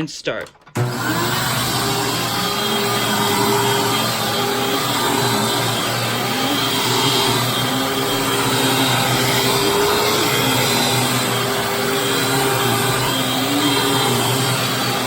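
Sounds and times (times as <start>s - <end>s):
vacuum cleaner running: 0.6s - 15.0s.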